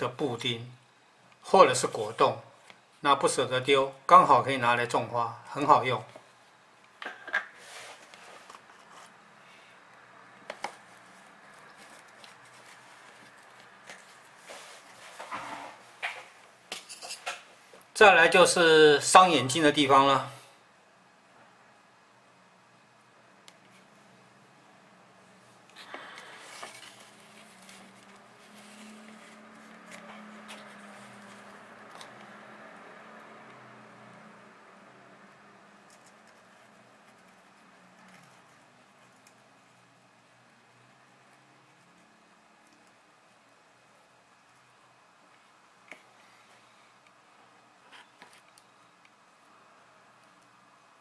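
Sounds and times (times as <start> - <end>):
faint room noise: 0.0 - 51.0.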